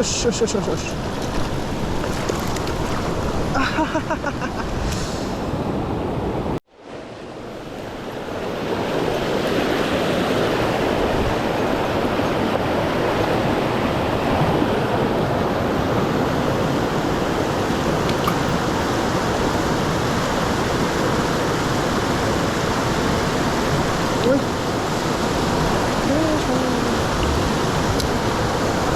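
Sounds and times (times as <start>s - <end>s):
water rushing over rocks: 0.7s - 3.6s, 7.8s - 28.9s.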